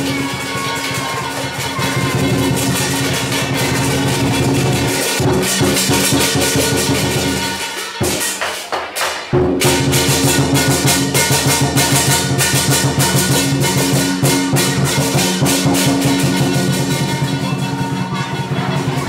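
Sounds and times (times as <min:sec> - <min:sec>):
gong: 0:00.0 - 0:08.6, 0:09.3 - 0:19.0
cymbals clashing: 0:00.0 - 0:19.0
drum beating: 0:00.0 - 0:19.0.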